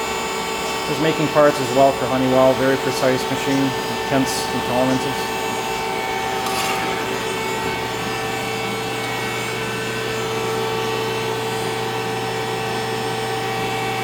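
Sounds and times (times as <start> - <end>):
lathe machine hum: 0.0 - 14.0.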